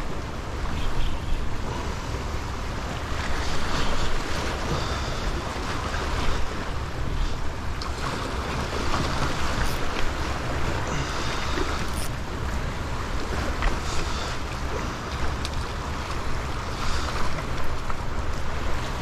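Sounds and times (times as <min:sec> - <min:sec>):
waves splashing against rocks: 0:00.0 - 0:19.0.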